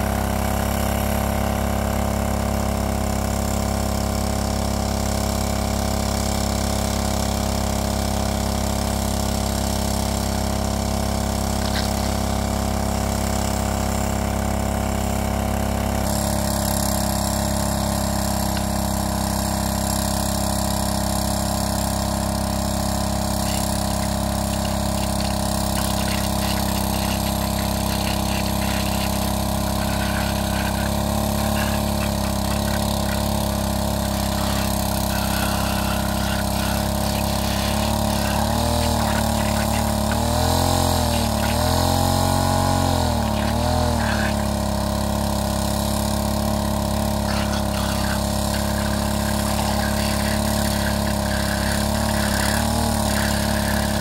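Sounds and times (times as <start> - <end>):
engine-driven water pump running: 0.0 - 54.0.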